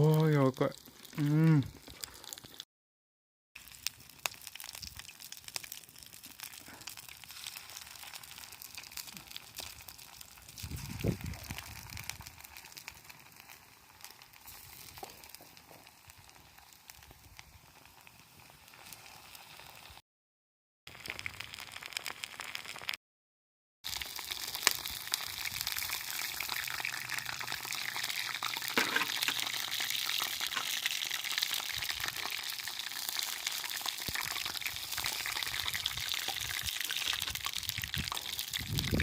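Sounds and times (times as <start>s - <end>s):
vegetables deep-frying in oil: 0.0s - 2.7s, 3.6s - 20.0s, 20.9s - 23.0s, 23.8s - 39.0s.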